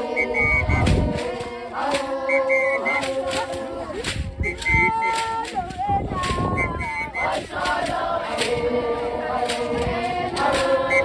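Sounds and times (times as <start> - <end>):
girls singing a chant: 0.0 - 11.0
sharp percussive beats: 0.0 - 11.0.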